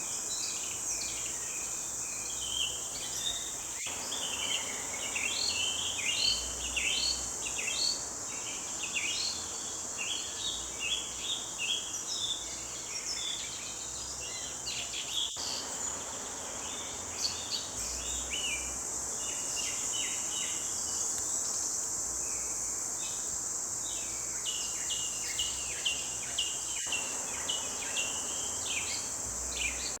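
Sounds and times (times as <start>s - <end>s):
crickets droning: 0.0s - 30.0s
songbirds chirping: 0.0s - 30.0s.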